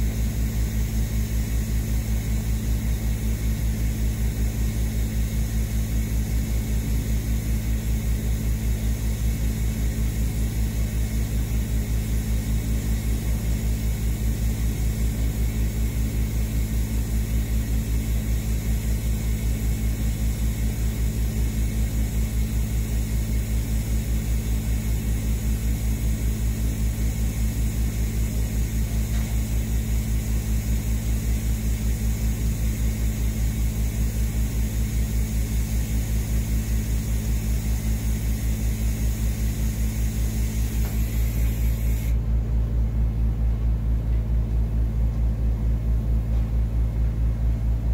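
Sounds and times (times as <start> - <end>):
welder humming and pulsing: 0.0 - 42.3.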